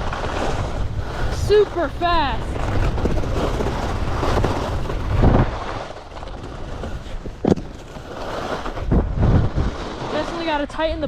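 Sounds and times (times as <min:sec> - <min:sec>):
skis scraping over firm snow: 0:00.0 - 0:11.0
wind rushing over microphone: 0:00.0 - 0:11.0.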